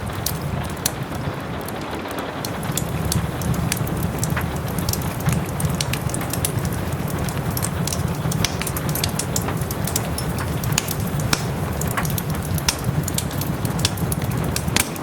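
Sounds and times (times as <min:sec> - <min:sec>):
soft rain hissing: 0:00.0 - 0:15.0
wood fire crackling and popping: 0:00.0 - 0:15.0.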